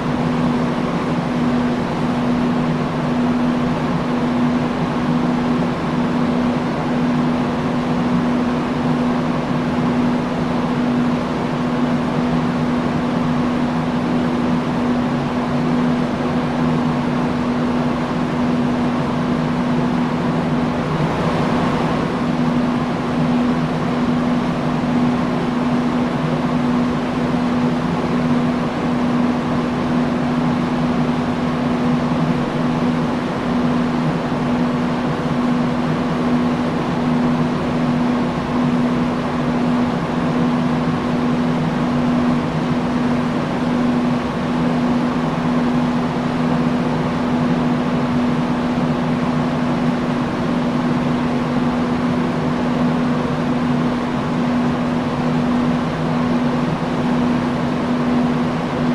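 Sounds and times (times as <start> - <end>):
industrial fan air rushing: 0.0 - 58.9
low motor hum: 0.0 - 58.9.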